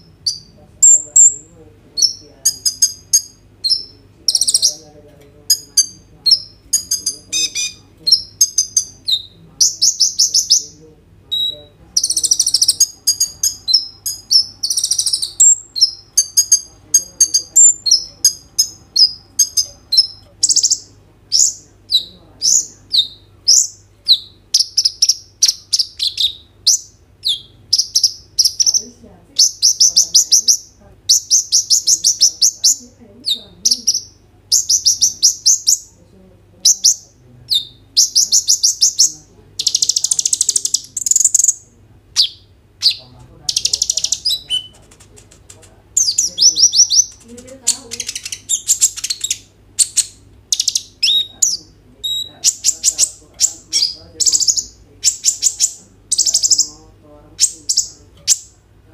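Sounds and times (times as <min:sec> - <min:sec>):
sunbird singing: 0:00.0 - 0:36.0, 0:36.6 - 0:44.8, 0:45.9 - 0:58.6.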